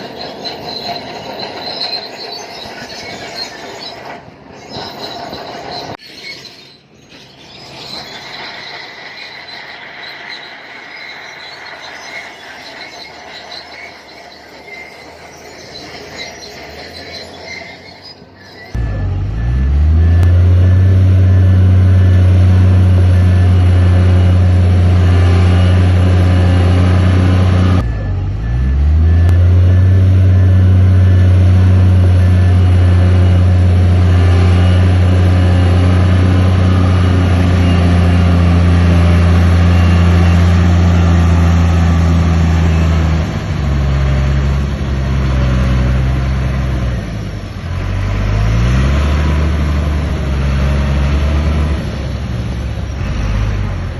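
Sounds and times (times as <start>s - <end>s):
bulldozer diesel engine under load: 0.0s - 53.9s.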